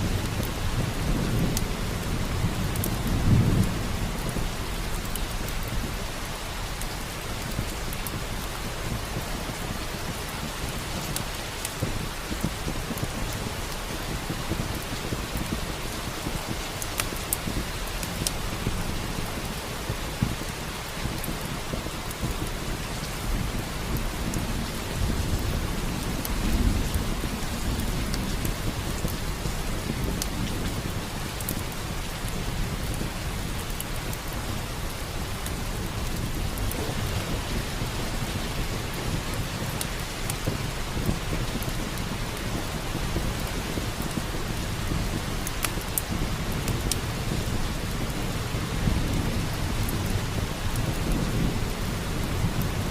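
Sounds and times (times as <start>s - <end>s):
heavy rain hissing: 0.0s - 52.9s
thunder rumbling: 0.0s - 52.9s
wood fire crackling: 0.0s - 52.9s.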